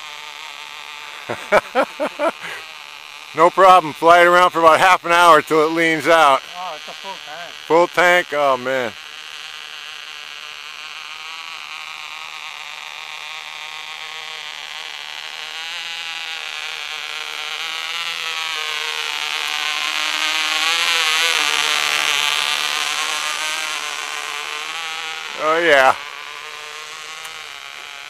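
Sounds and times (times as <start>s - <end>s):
model plane engine buzzing: 0.0s - 28.0s.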